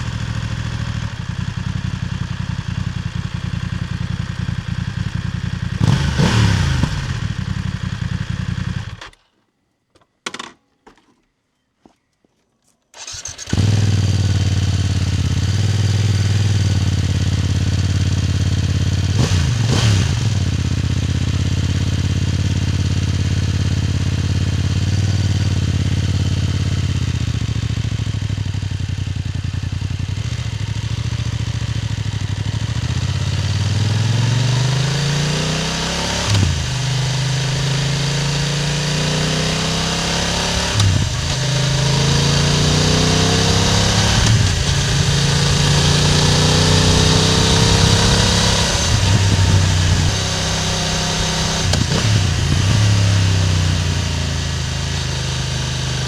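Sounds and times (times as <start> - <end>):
motorcycle exhaust while riding: 0.0 - 9.1, 13.0 - 56.0.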